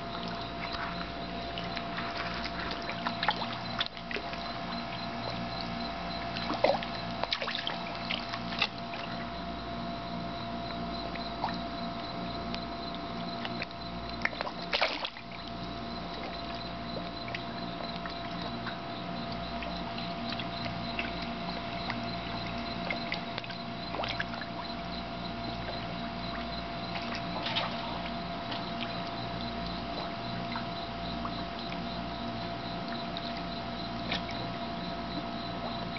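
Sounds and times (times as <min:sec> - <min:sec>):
electrical hum: 0:00.0 - 0:35.9
water lapping and trickling: 0:00.0 - 0:35.9.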